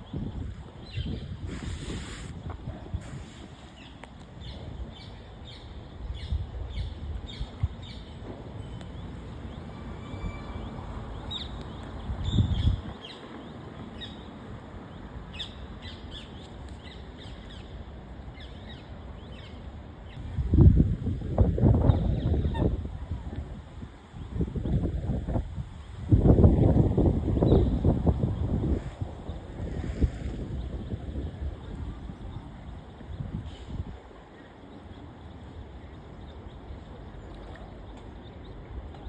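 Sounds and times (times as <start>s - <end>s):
wind rumble on microphone: 0.0s - 39.0s.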